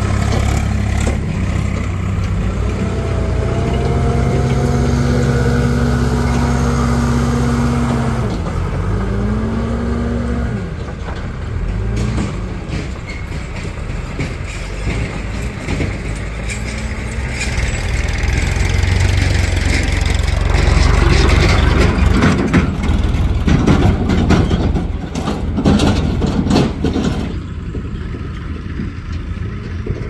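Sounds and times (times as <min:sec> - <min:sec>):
knocks and rattles: 0:00.0 - 0:09.3, 0:10.8 - 0:30.0
tractor diesel engines rumbling: 0:00.0 - 0:30.0.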